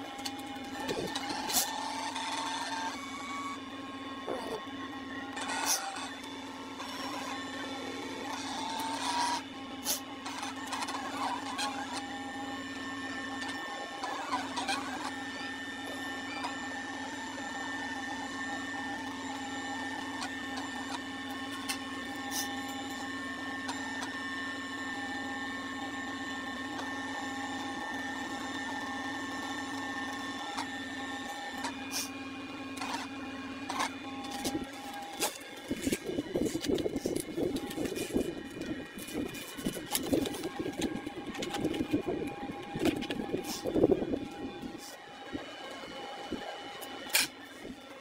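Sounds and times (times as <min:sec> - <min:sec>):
cutting machine motor whir: 0:00.0 - 0:48.0.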